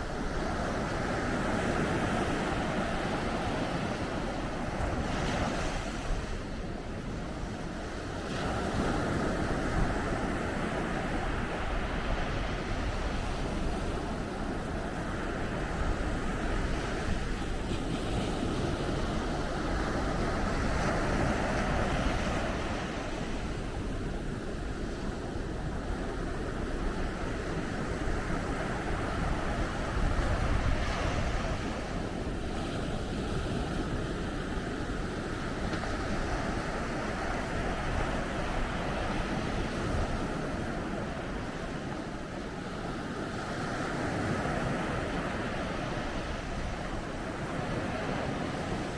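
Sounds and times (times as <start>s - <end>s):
waves breaking on beach: 0.0s - 48.9s.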